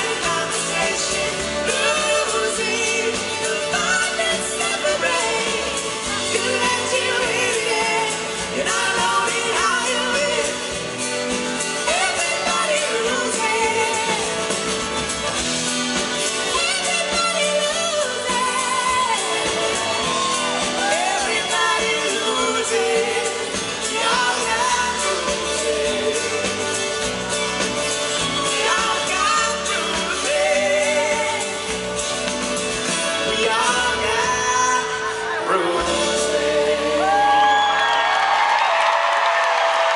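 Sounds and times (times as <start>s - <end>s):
man and woman singing duet: 0.0s - 14.6s, 16.4s - 27.2s, 28.2s - 32.1s, 32.8s - 38.2s
live pop-rock band playing: 0.0s - 39.9s.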